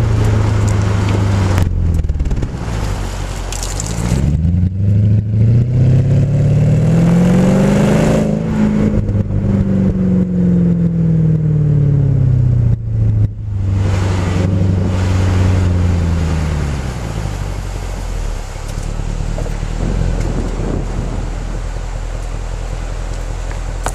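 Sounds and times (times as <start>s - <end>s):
car exhaust drone: 0.0s - 23.9s
low rumble: 0.0s - 23.9s.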